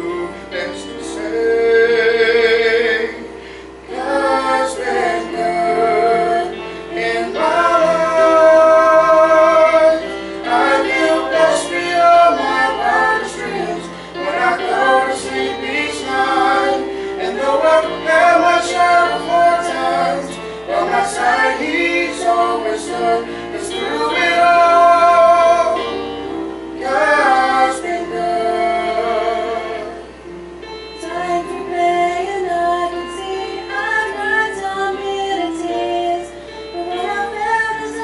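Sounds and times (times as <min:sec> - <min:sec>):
man and woman singing gospel duet: 0:00.0 - 0:38.0.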